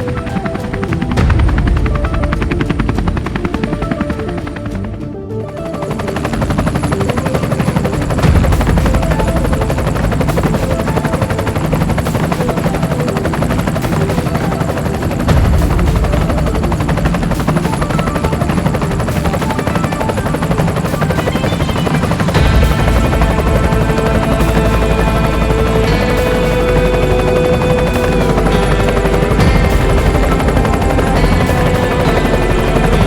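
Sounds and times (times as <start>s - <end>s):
helicopter rotor blades chopping: 0.0s - 33.0s.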